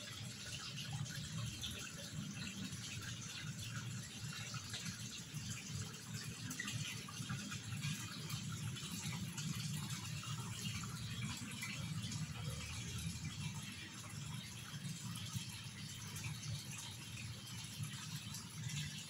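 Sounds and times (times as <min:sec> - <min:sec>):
water trickling into pond: 0:00.0 - 0:19.0.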